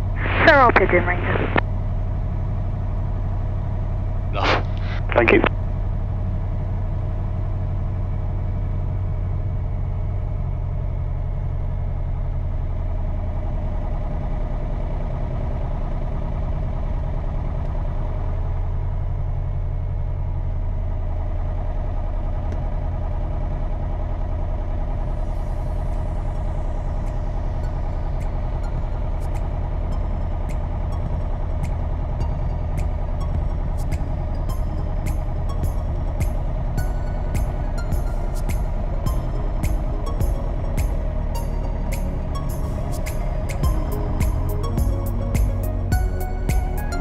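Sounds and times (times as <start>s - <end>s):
aircraft piston engine droning: 0.0s - 18.8s, 21.1s - 47.0s.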